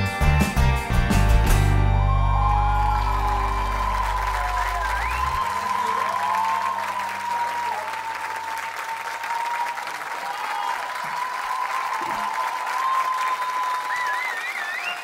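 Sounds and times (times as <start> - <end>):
audience applauding: 1.7 - 15.0.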